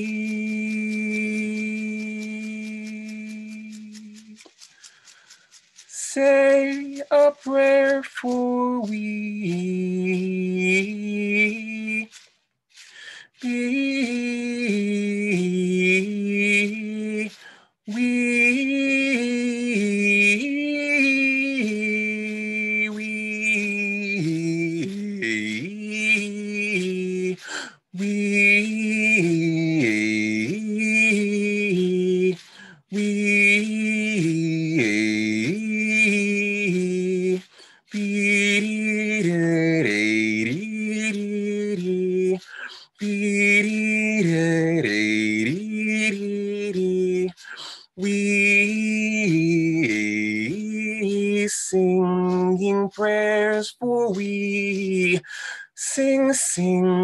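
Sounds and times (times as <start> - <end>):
man singing chant-like prayer: 0.0 - 57.0.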